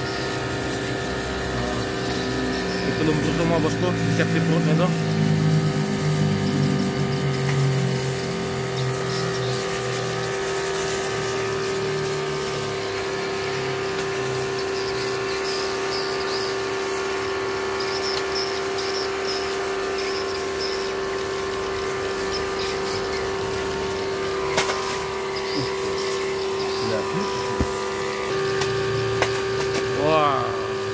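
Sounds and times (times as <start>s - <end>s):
engine humming steadily: 0.0s - 30.9s.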